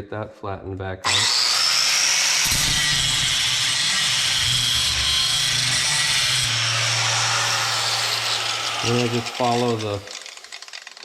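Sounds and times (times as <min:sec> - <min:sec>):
angle grinder grinding steel: 0:01.1 - 0:11.0.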